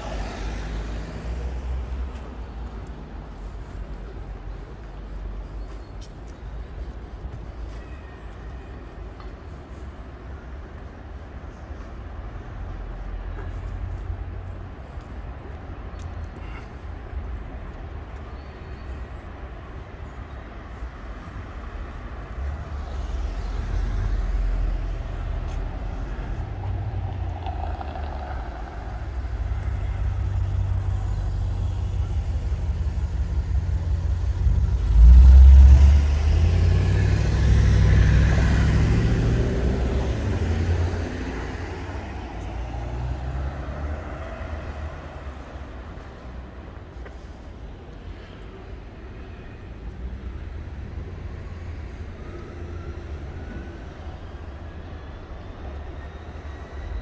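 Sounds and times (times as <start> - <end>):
engine rumble of passing vehicles: 0.0 - 57.0.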